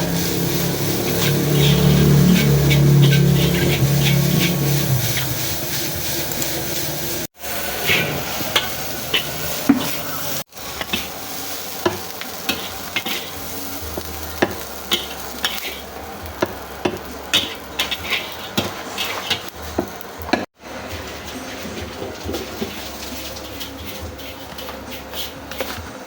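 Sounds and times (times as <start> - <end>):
food sizzling: 0.0 - 26.0
metal spatula scraping wok: 0.0 - 26.0.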